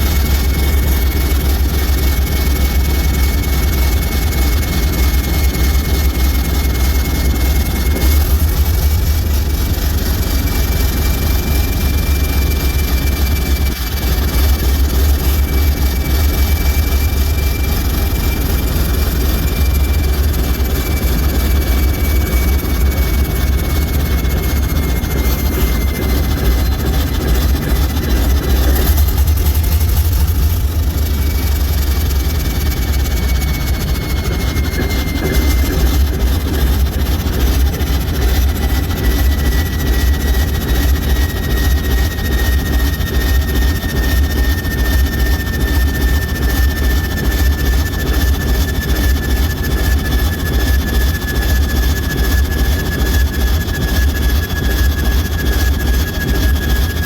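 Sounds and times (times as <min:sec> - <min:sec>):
diesel locomotive engine rumble: 0:00.0 - 0:57.0
faint high whine: 0:00.0 - 0:57.0.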